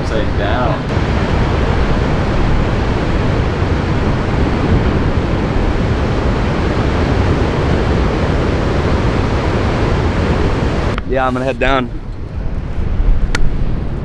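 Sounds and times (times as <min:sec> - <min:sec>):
heavy ocean surf: 0:00.0 - 0:14.0
wind: 0:00.0 - 0:14.0.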